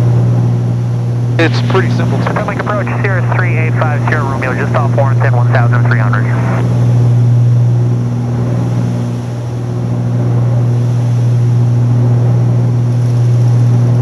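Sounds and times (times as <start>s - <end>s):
plane engines droning in cabin: 0.0s - 14.0s.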